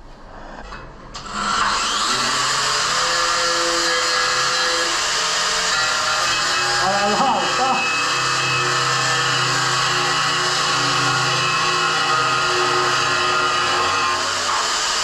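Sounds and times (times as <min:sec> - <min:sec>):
angle grinder grinding steel: 0:00.7 - 0:15.0.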